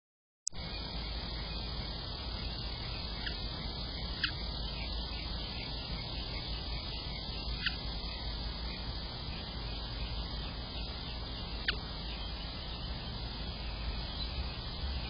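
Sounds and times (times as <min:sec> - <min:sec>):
steady hiss: 0:00.5 - 0:15.0.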